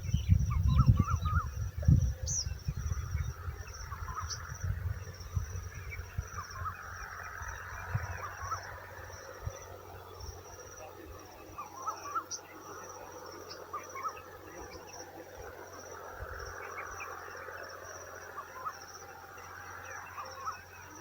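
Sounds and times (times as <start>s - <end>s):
insects chirring trill: 0.0s - 21.0s.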